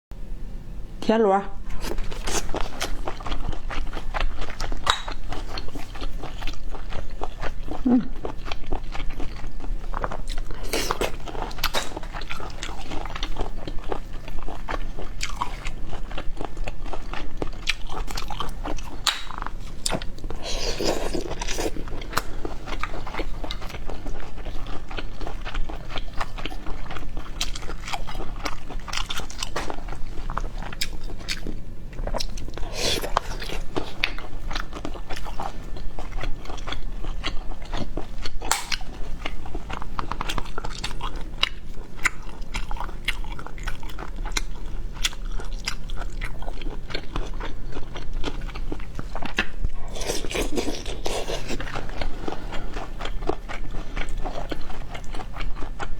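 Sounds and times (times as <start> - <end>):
chewing snails: 1.7 - 55.9.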